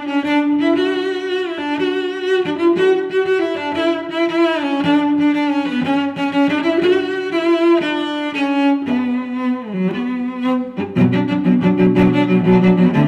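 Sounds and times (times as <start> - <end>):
slow bowed string melody: 0.0 - 13.0.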